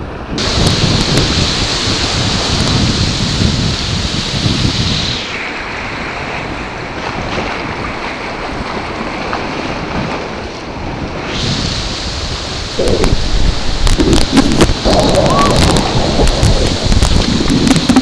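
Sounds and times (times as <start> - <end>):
wind rumbling on microphone: 0.0 - 18.0
river rapids rushing: 0.4 - 18.0.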